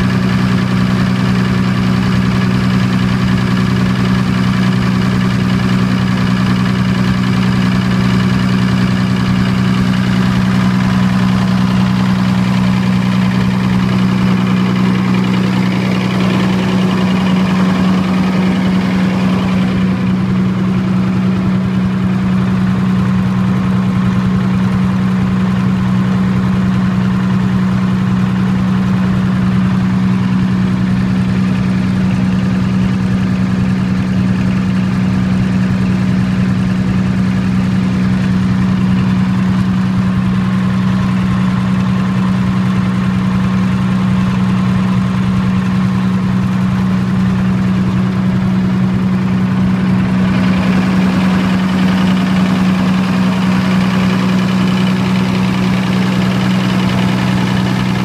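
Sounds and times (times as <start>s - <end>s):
diesel generator running: 0.0s - 58.0s.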